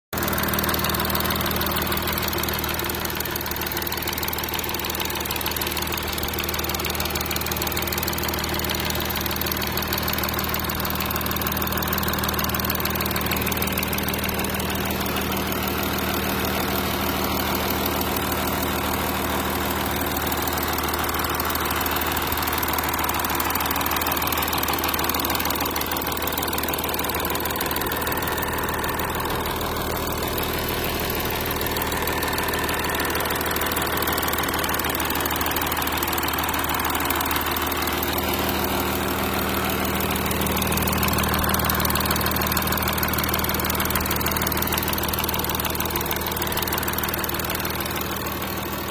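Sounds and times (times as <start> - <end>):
engine humming steadily: 0.1 - 48.9.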